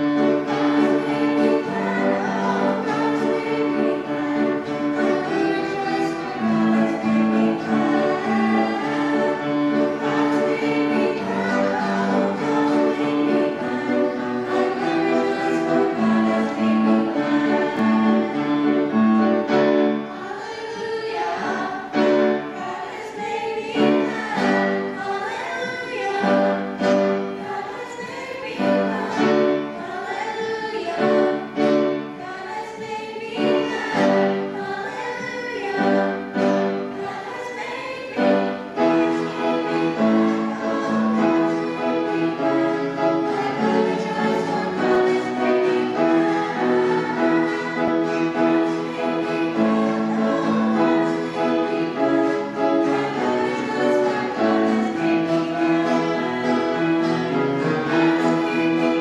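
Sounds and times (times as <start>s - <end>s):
choir singing: 0.0s - 59.0s
instrumental accompaniment: 0.0s - 59.0s.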